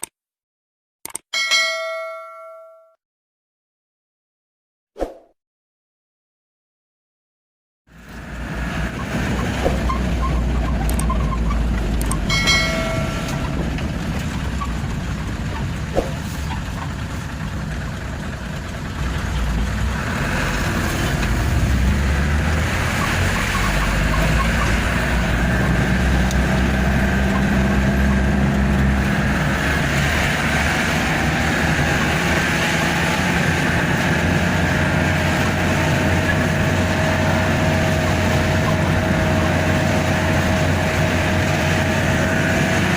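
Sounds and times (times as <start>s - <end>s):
road noise: 7.9s - 42.9s
truck engine rumble: 7.9s - 42.9s.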